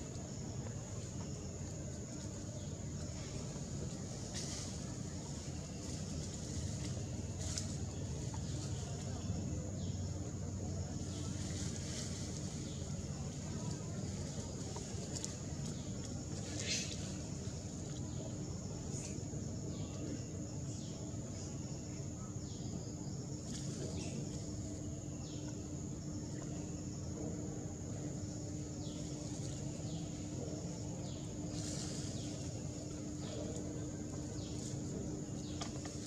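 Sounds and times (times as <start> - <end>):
insect drone: 0.0 - 36.0
low steady hum: 0.0 - 36.0.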